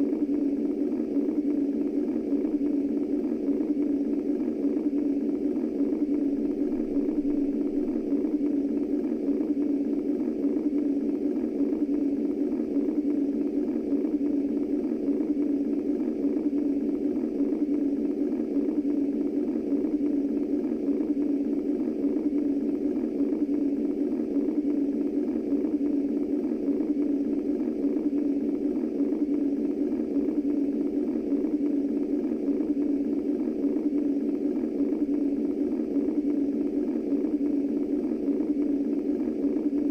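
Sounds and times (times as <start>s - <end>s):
deep muffled white noise: 0.0s - 39.9s.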